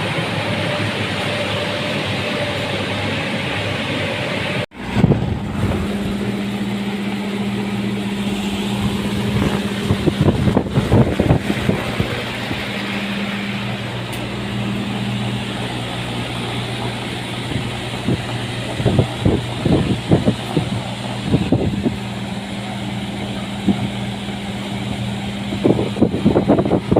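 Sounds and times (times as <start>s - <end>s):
mechanical hum: 0.0s - 26.9s.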